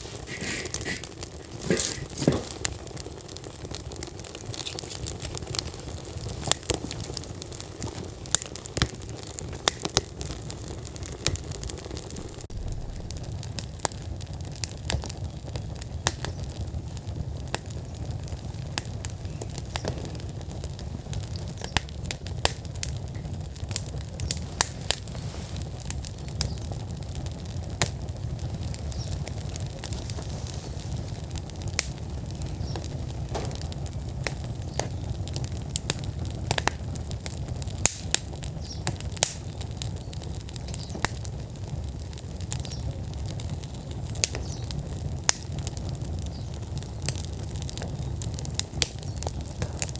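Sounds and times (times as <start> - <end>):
burning logs crackling and popping: 0.0 - 49.9
fire rumbling: 0.0 - 49.9.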